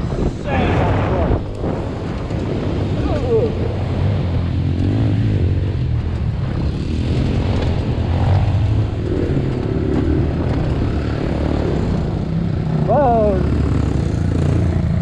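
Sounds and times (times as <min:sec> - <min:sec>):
electric dirt bike riding: 0:00.0 - 0:15.0.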